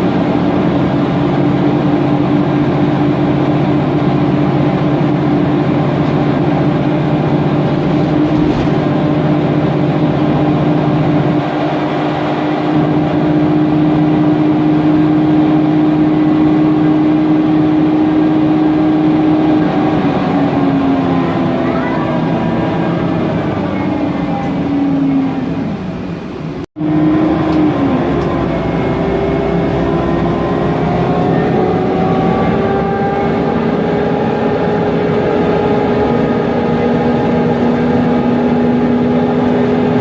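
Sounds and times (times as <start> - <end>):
bus engine whine: 0.0 - 40.0.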